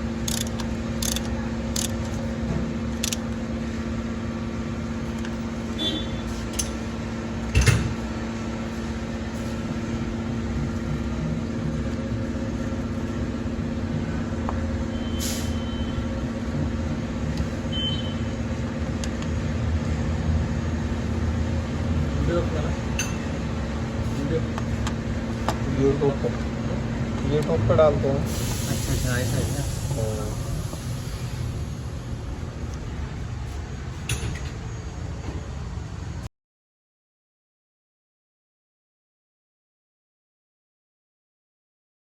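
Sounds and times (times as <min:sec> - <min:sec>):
car engine idling: 0:00.0 - 0:34.1.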